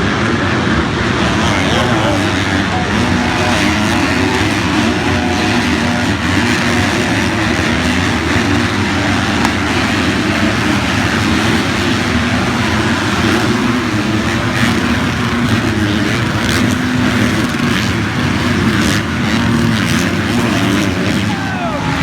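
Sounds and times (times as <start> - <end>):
motocross bike engines revving: 0.0 - 22.0
steady rushing noise: 0.0 - 22.0.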